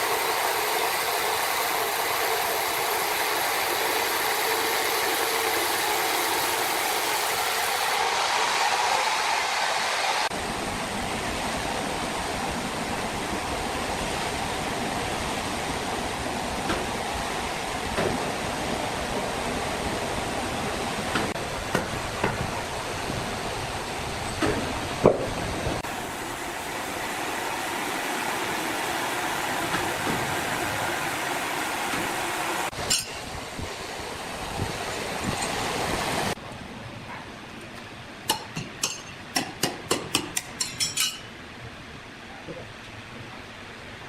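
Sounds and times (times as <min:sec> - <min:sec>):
sawmill machinery running: 0:00.0 - 0:36.4.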